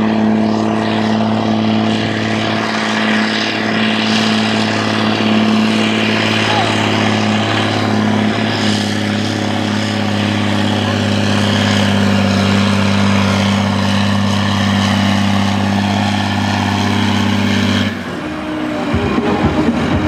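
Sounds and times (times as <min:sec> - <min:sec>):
tractor diesel engine at high revs: 0:00.0 - 0:20.0.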